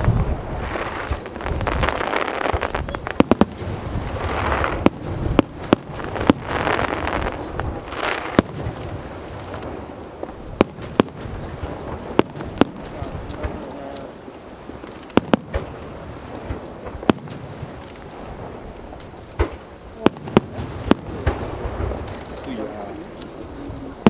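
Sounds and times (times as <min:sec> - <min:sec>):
crackling hissing firework wash: 0:00.0 - 0:24.0
firework shells bursting: 0:00.0 - 0:24.0.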